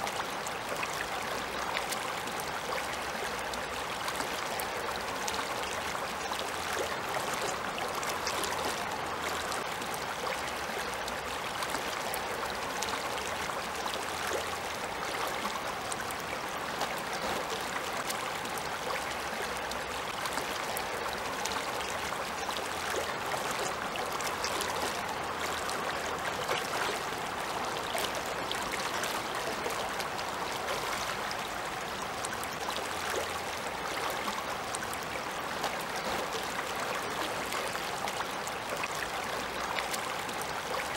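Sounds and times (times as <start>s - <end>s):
small water splashes: 0.0s - 40.9s.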